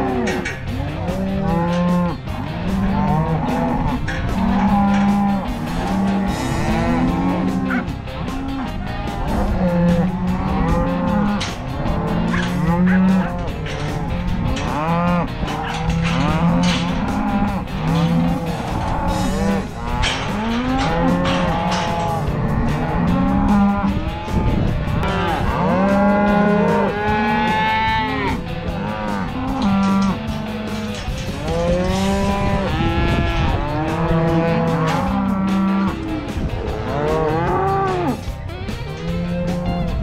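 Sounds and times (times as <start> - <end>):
cattle bawling and mooing: 0.0 - 40.0.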